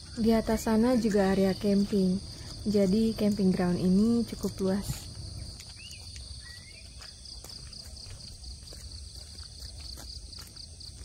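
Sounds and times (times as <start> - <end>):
insects chirring: 0.0 - 11.0
footsteps on paving: 0.5 - 11.0.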